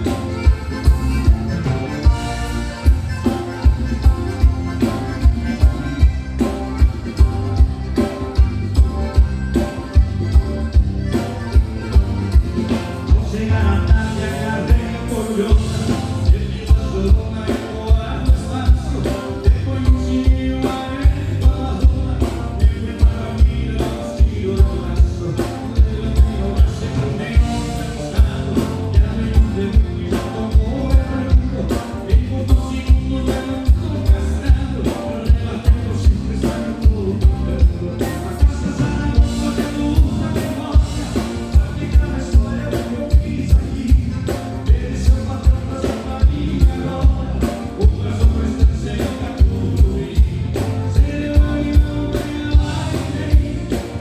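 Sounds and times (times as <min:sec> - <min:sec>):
live band playing dance music: 0:00.0 - 0:54.0
steady drum beat: 0:00.0 - 0:54.0.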